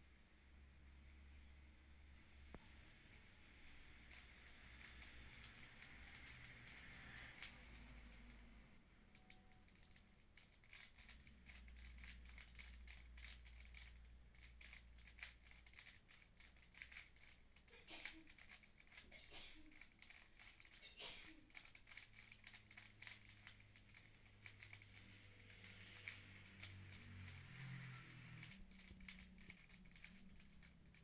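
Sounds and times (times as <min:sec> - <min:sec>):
plastic puzzle cube clicking: 0:03.2 - 0:31.0.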